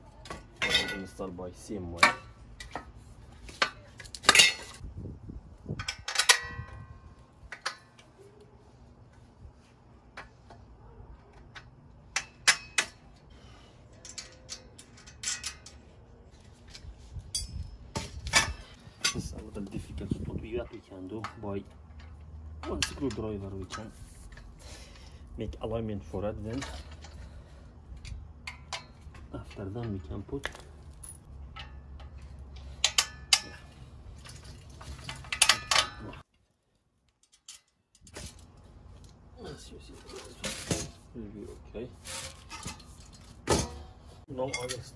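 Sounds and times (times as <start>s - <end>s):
metal bolts clinking: 0.2s - 4.8s, 5.7s - 8.1s, 11.3s - 16.0s, 16.6s - 25.0s, 26.3s - 36.3s, 37.1s - 41.1s, 42.1s - 44.9s.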